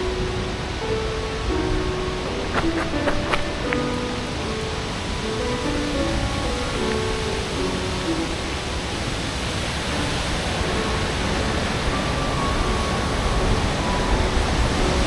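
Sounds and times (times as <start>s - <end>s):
faint background music: 0.0s - 15.0s
rushing water: 0.0s - 15.0s.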